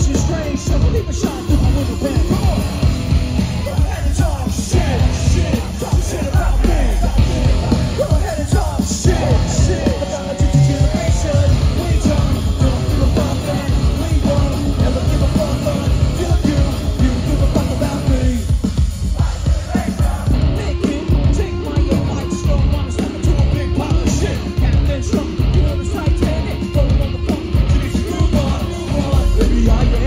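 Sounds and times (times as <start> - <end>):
metal band playing live: 0.0 - 30.0
yelled and sung vocals: 0.0 - 30.0.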